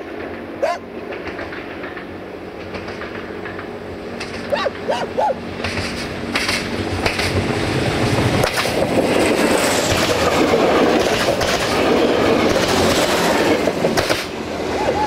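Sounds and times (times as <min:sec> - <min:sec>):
train running gear rumbling: 0:00.0 - 0:15.0
wheels clicking over rail joints: 0:00.0 - 0:15.0.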